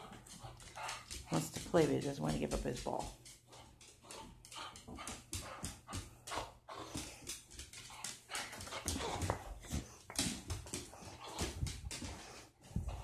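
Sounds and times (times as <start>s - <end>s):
dog moving on hardwood floor: 0.0s - 13.0s.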